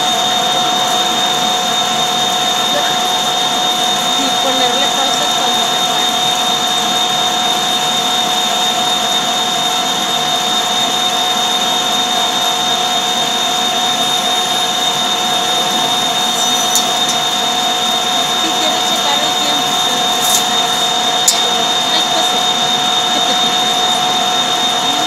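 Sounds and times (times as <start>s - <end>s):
lathe running with high whine: 0.0s - 25.0s.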